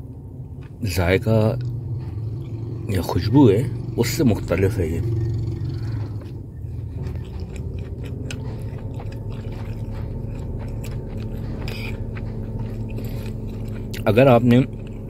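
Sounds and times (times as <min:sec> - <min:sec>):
steady low hum: 0:00.0 - 0:15.0
wet mouth clicks chewing: 0:01.5 - 0:02.9, 0:03.8 - 0:15.0.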